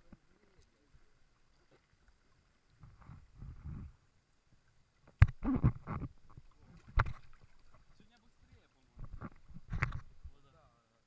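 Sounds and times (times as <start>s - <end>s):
river water sloshing and gurgling: 0.0s - 10.3s.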